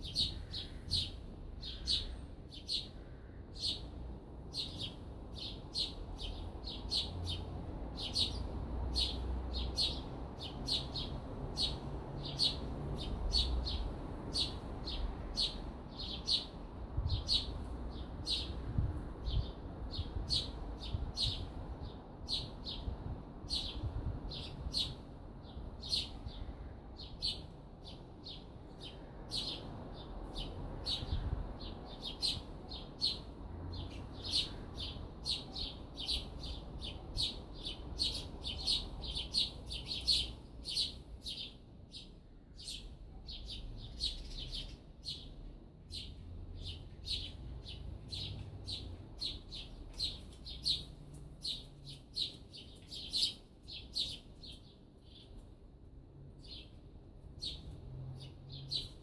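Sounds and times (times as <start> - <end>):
songbird chirping: 0.0 - 55.6, 56.2 - 59.0.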